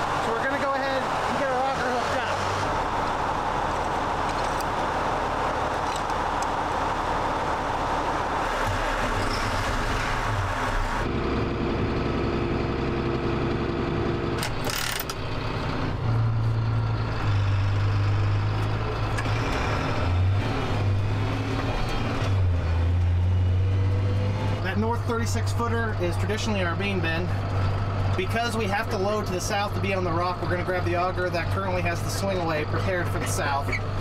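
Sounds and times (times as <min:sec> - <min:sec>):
tractor engine drone: 0:00.0 - 0:34.0.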